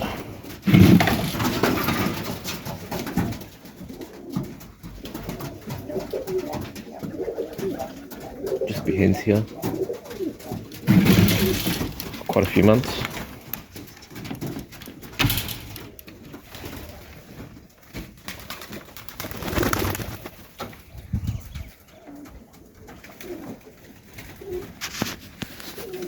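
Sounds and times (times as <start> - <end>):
pigeons cooing: 0.0 - 17.6, 18.4 - 26.0
birds moving with knocks and rustles: 0.0 - 26.0.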